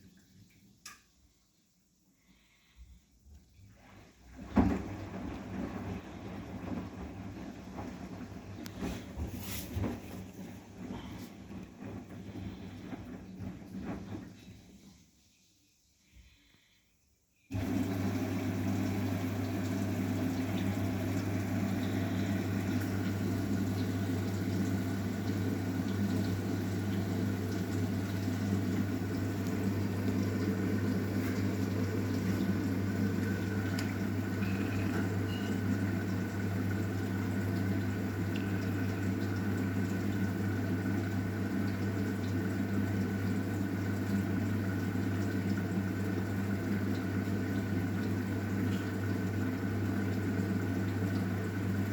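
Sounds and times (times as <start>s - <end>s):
washing machine filling with water: 0.0s - 16.8s, 17.5s - 51.9s.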